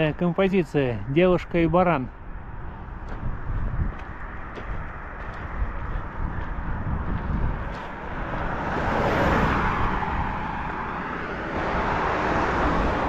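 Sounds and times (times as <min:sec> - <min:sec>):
vehicle approaching: 0:00.0 - 0:13.0
car passing: 0:02.1 - 0:13.0.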